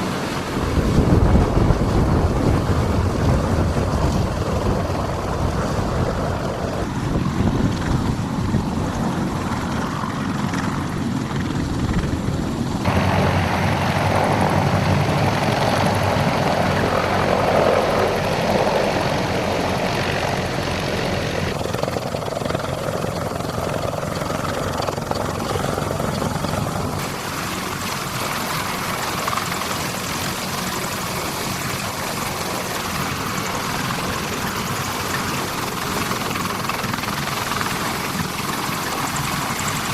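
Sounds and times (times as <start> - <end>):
helicopter rotors and engines droning: 0.0 - 39.9.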